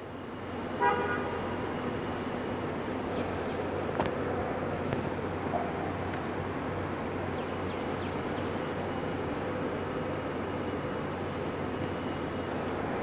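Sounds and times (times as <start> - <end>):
airport terminal hum and hiss: 0.0 - 13.0.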